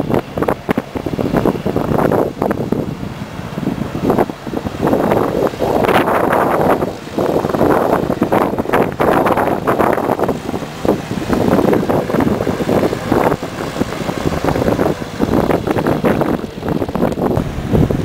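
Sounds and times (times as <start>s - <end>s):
jeep engine driving: 0.0s - 18.0s
wind gusts: 0.0s - 18.0s.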